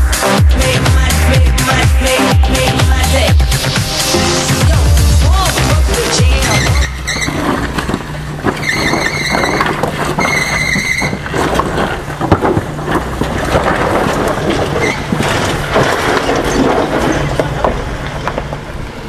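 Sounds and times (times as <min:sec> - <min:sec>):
high squeals: 0:00.0 - 0:12.1, 0:14.6 - 0:17.9
jeep engine humming: 0:00.0 - 0:19.0
knocking and rumbling: 0:00.2 - 0:18.9.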